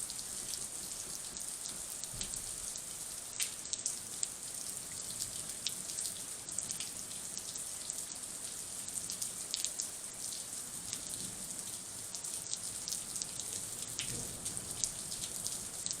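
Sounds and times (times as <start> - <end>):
rain falling steadily: 0.0 - 16.0
raindrops ticking close by: 0.1 - 16.0.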